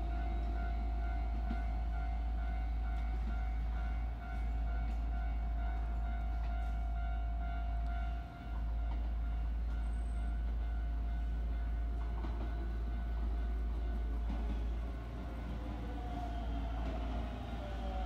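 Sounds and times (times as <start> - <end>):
electric train approaching with whine: 0.0 - 18.0.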